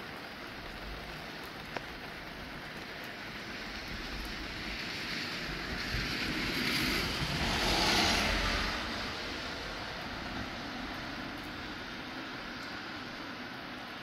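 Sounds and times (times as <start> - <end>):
rain shower falling: 0.0 - 14.0.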